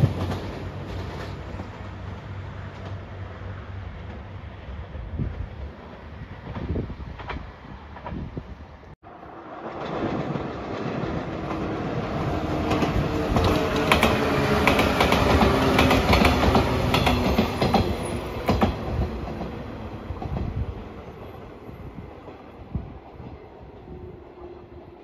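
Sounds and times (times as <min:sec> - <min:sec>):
electric train rumbling past: 0:00.0 - 0:25.0.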